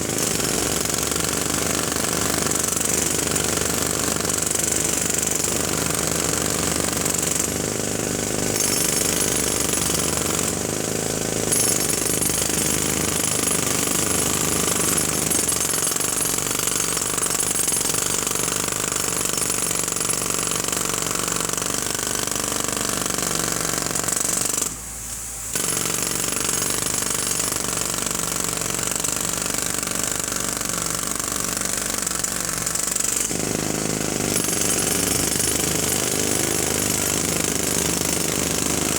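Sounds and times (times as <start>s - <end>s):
jackhammer running: 0.0s - 24.8s, 25.5s - 38.9s.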